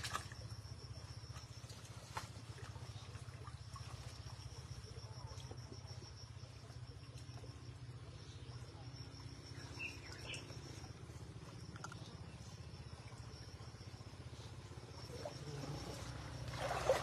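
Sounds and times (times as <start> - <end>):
insects trilling: 0.0 - 17.0
stream water running: 0.0 - 17.0.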